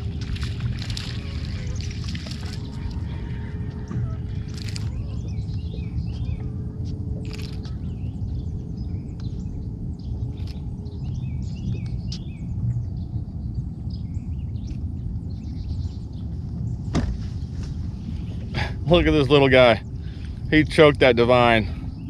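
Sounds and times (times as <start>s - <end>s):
faint steady hum: 0.0s - 22.0s
low rumbling outdoor noise: 0.0s - 22.0s
small birds chirping: 0.0s - 22.0s.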